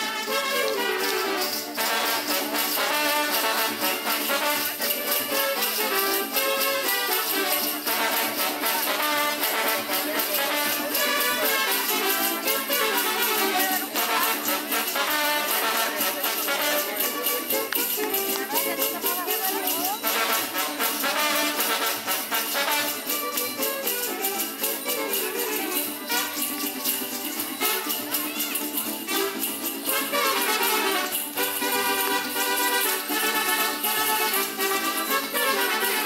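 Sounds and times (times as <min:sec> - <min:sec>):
brass band playing: 0:00.0 - 0:36.0
leg bells jingling: 0:00.0 - 0:36.0.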